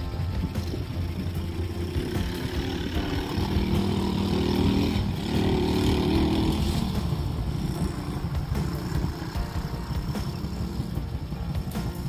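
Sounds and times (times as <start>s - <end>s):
small atv engine revving: 0.0s - 12.0s.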